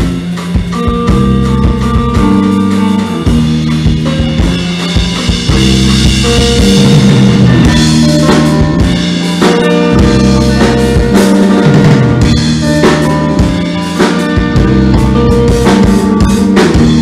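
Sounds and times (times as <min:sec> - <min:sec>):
bass guitar: 0:00.0 - 0:17.0
drum kit kick and snare: 0:00.0 - 0:17.0
electric guitar: 0:00.0 - 0:17.0.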